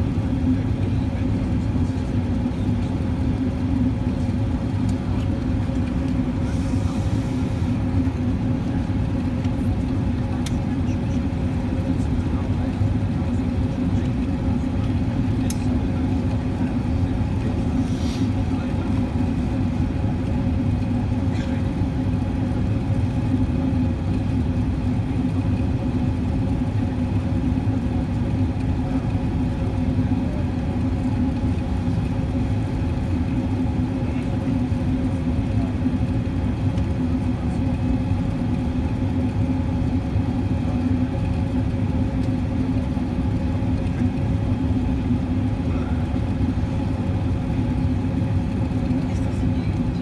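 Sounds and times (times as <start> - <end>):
airliner cabin drone: 0.0 - 50.0.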